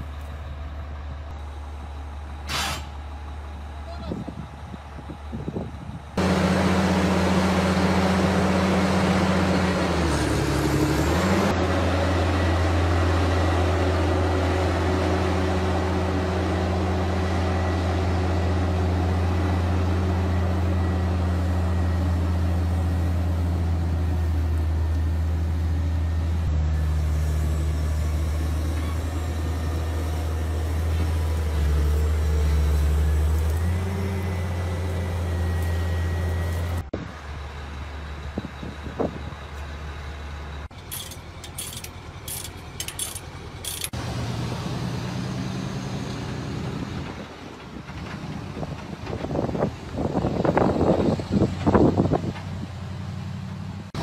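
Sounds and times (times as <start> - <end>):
excavator diesel engine working: 0.0 - 54.0.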